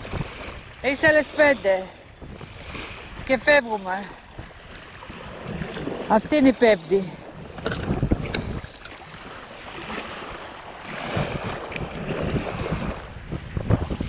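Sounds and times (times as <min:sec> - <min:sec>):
lapping sea water: 0:00.0 - 0:14.0
wind buffeting microphone: 0:00.0 - 0:14.0.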